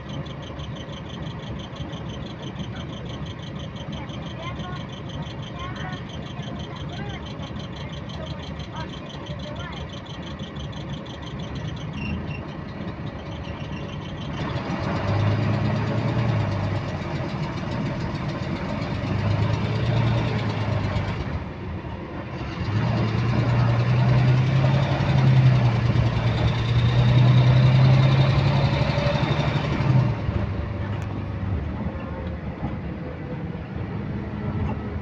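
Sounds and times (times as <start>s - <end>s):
diesel bus engine: 0.0s - 35.0s
repetitive engine clicking: 0.0s - 35.0s.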